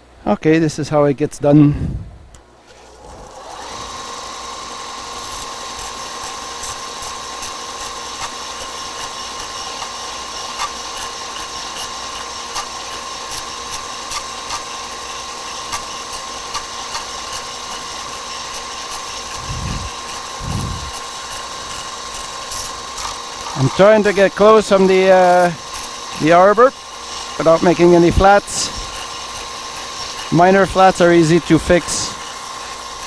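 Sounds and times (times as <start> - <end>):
belt sander sanding wood: 2.7 - 33.0.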